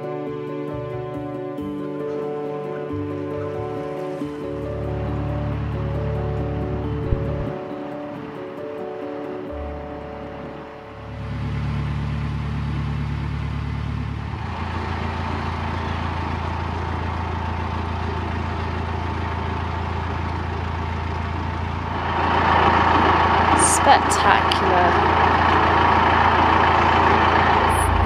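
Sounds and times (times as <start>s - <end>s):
diesel engine humming at low revs: 2.9s - 28.0s.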